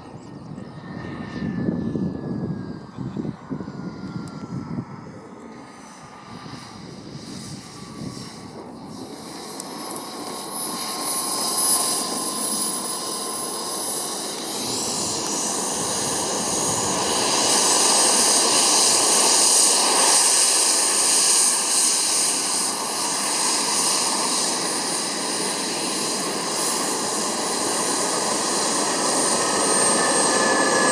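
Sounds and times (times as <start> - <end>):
model jet engine whine: 0.0 - 30.9.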